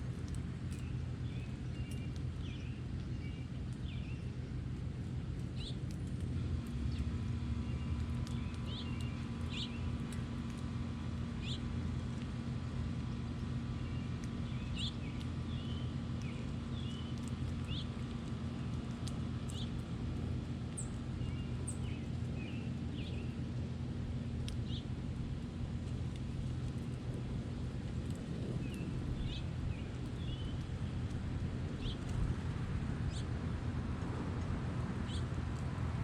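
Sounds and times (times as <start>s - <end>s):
songbirds chirping: 0.0s - 36.0s
steady low rumble and hum: 0.0s - 36.0s.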